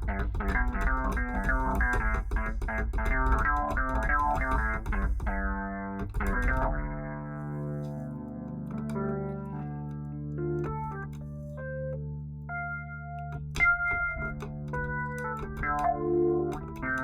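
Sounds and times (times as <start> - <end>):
electric piano funk chords: 0.0 - 17.0
deep bass line: 3.1 - 17.0.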